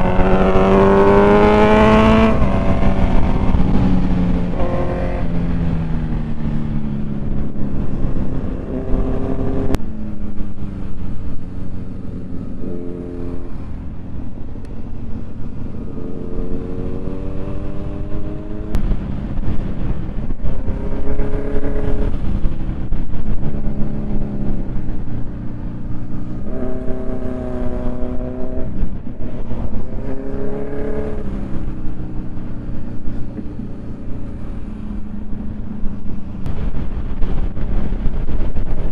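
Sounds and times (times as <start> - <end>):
motorcycle engine accelerating: 0.0 - 38.9
wind rumble on microphone: 0.0 - 38.9.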